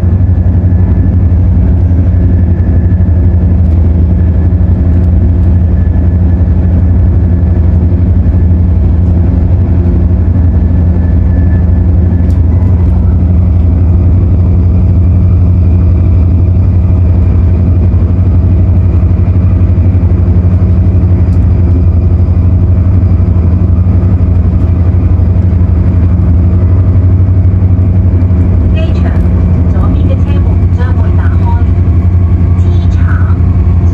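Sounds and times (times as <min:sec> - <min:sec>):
train interior drone: 0:00.0 - 0:33.9.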